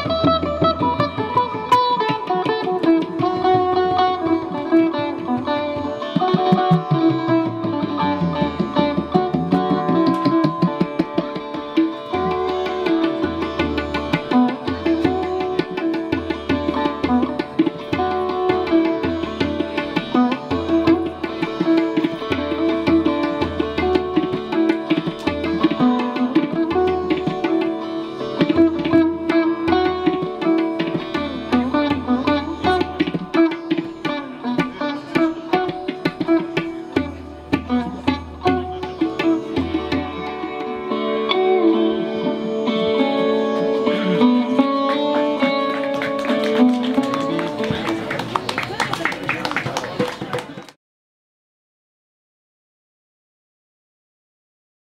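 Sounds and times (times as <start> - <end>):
sitar melody with bent notes: 0.0 - 48.8.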